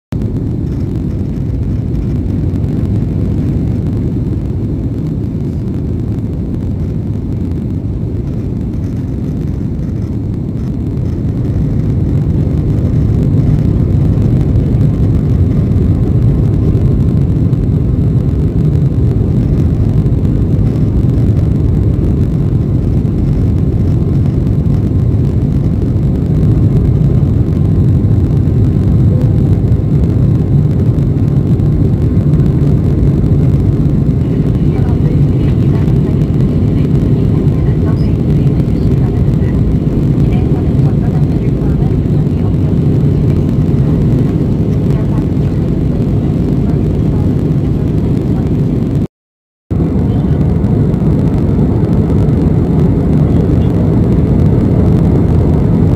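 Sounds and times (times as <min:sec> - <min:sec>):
airliner cabin rumble: 0:00.1 - 0:49.1, 0:49.7 - 0:55.9.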